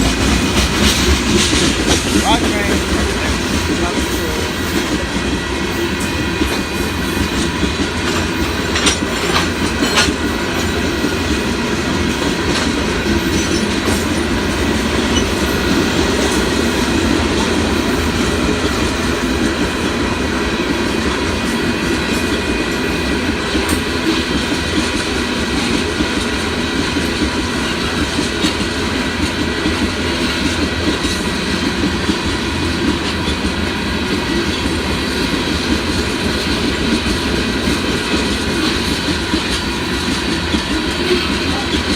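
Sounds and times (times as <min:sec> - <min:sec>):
steel train wheels on rails: 0:00.0 - 0:41.9.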